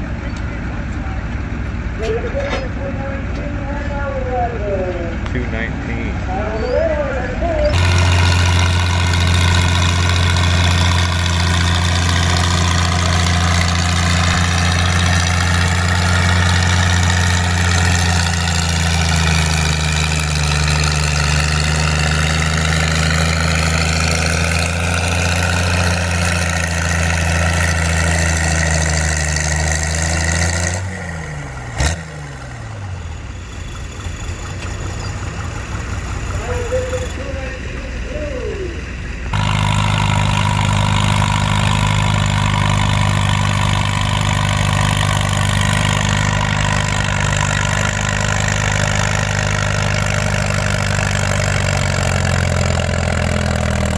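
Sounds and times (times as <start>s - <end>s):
tractor engine under heavy load: 0.0s - 53.9s.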